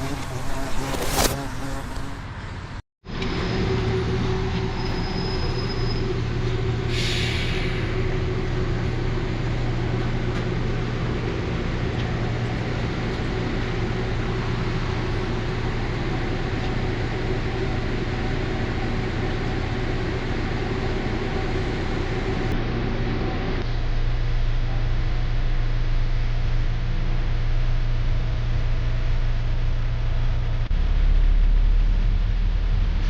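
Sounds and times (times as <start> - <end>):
bus engine running: 0.0 - 33.0
road noise: 0.0 - 33.0.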